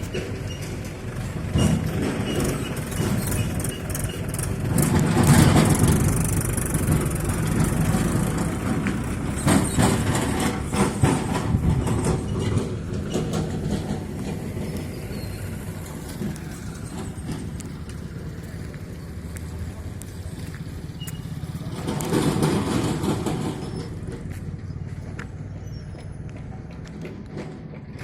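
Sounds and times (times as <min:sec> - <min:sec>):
bulldozer diesel engine running: 0:00.0 - 0:28.0
knocks and clatter: 0:00.0 - 0:28.0.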